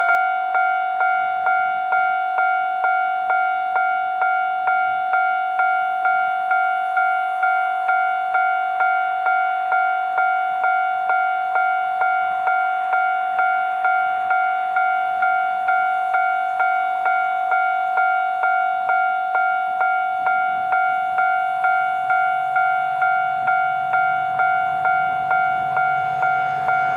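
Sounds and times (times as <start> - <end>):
level crossing bell clanging: 0.0 - 26.9.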